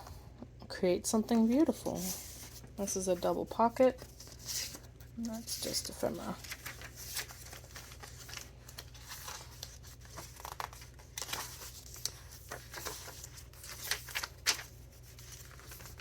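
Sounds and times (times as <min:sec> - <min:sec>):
paper pages rustling: 0:01.4 - 0:16.0.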